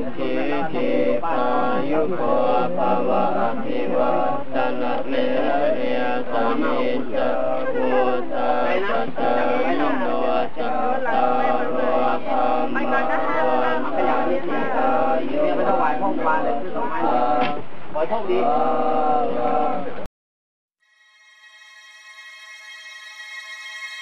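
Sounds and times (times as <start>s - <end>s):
men chanting in unison: 0.0s - 20.1s.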